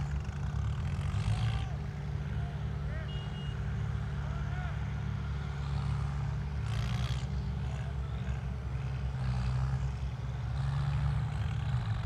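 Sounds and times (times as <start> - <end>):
tractor engines accelerating: 0.0 - 12.0.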